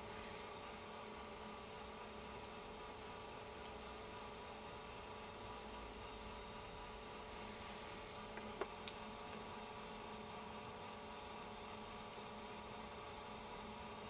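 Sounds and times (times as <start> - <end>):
faint steady hum and hiss: 0.0 - 14.0.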